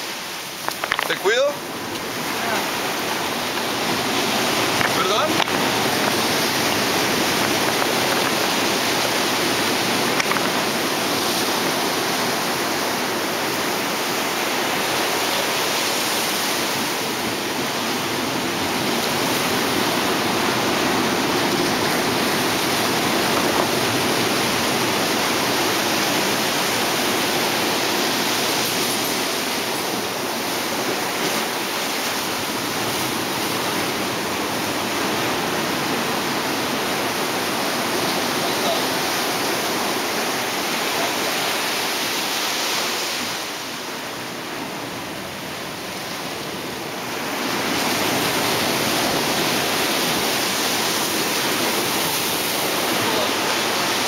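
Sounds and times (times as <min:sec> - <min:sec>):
ocean surf washing on rocks: 0:00.0 - 0:54.0.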